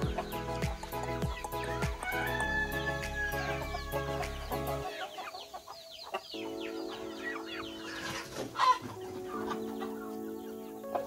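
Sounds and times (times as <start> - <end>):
background music: 0.0 - 11.0
roosters clucking: 0.0 - 11.0.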